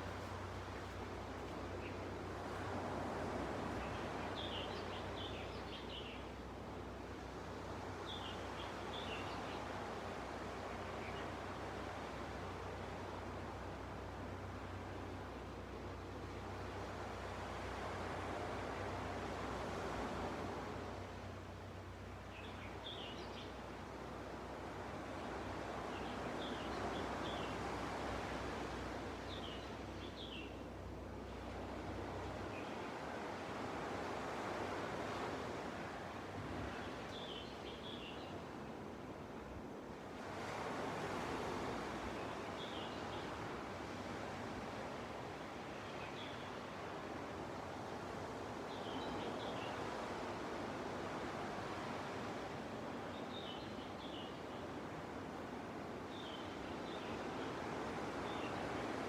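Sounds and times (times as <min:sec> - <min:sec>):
ocean waves washing on beach: 0:00.0 - 0:59.0.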